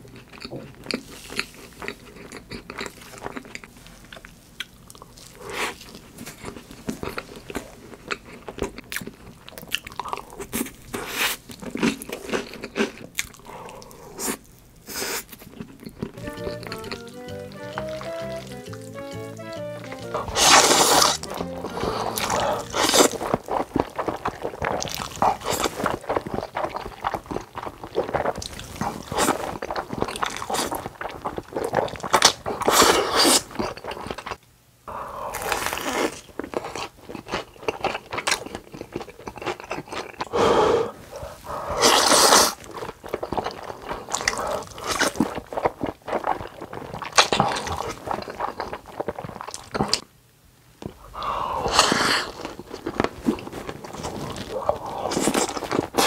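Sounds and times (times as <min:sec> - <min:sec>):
chewing and crunchy bites: 0:00.0 - 0:34.4, 0:35.3 - 0:40.4, 0:41.3 - 0:50.1, 0:51.6 - 0:56.0.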